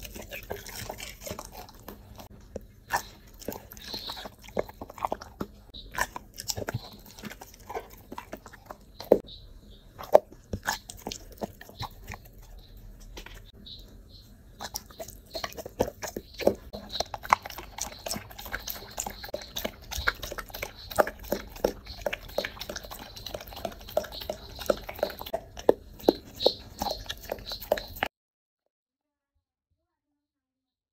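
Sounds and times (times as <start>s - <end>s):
dog chewing and crunching food: 0.0s - 28.1s.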